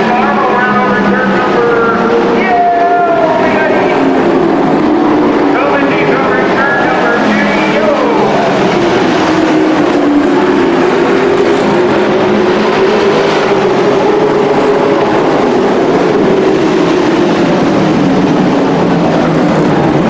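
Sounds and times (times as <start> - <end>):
race truck engines droning: 0.0 - 20.0.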